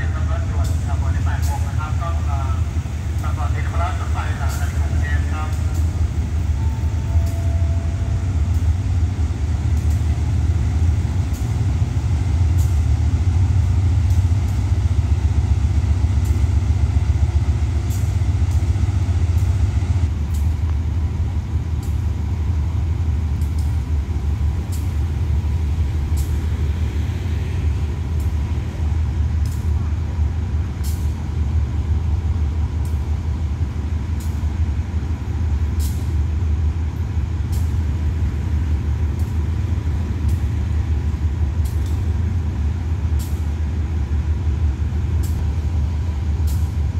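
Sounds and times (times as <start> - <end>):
diesel locomotive rumbling: 0.0 - 46.9.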